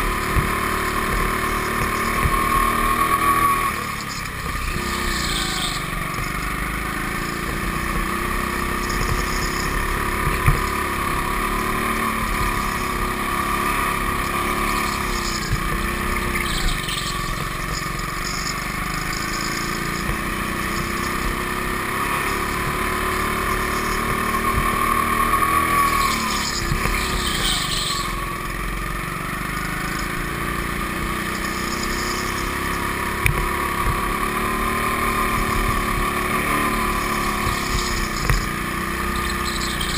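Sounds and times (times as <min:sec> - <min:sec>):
go-kart motor droning: 0:00.0 - 0:39.9.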